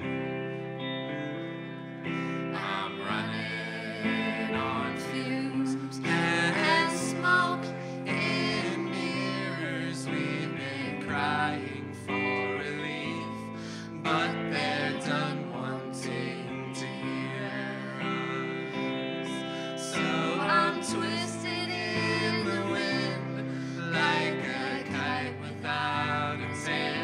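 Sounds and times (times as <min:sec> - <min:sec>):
electric guitar: 0:00.0 - 0:27.0
woman singing: 0:02.5 - 0:18.7, 0:19.3 - 0:27.0.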